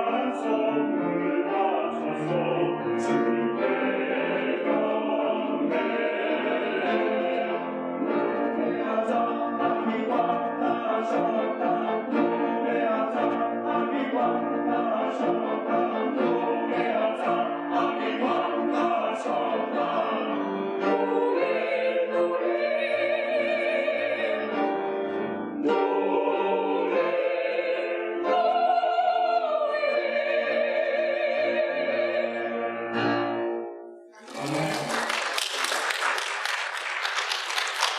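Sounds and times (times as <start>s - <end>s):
church choir singing: 0.0s - 37.9s.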